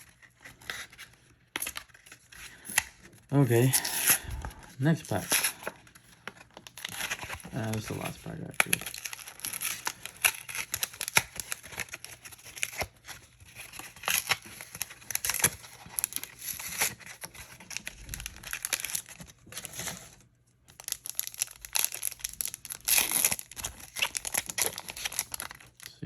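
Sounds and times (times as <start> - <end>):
foil wrapper tearing and crinkling: 0.0 - 26.0.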